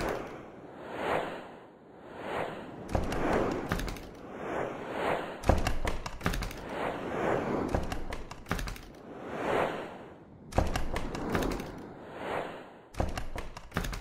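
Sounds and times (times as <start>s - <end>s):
whooshes: 0.0s - 13.5s.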